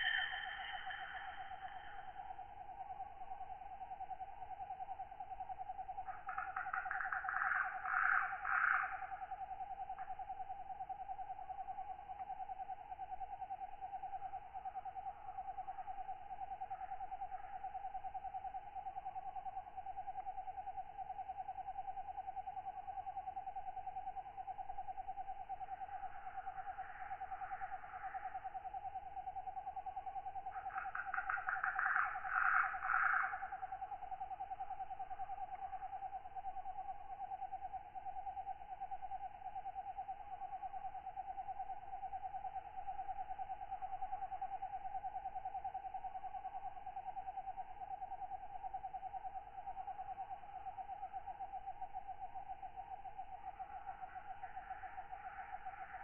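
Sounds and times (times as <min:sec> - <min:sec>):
fast-pulsing insect trill: 0:00.0 - 0:56.0.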